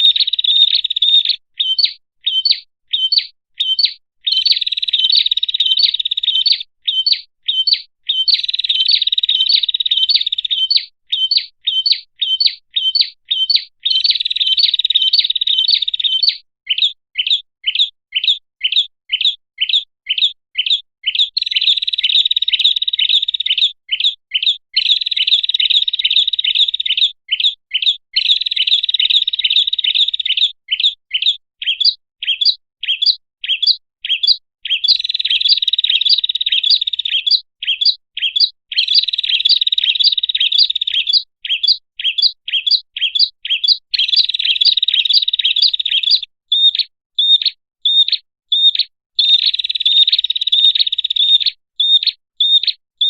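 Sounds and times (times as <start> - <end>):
bird rapid trilling: 0.0 - 52.6.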